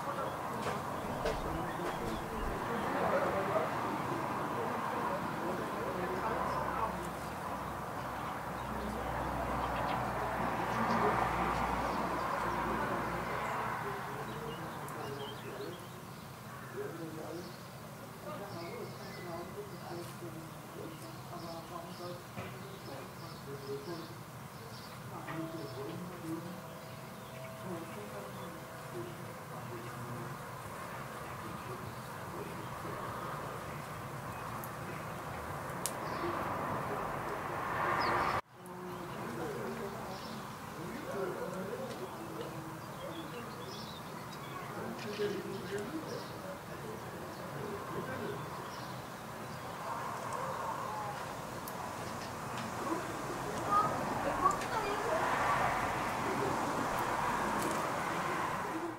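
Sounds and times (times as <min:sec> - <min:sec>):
faint birds calling: 0:00.0 - 0:58.9
steady outdoor hiss: 0:00.0 - 0:58.9.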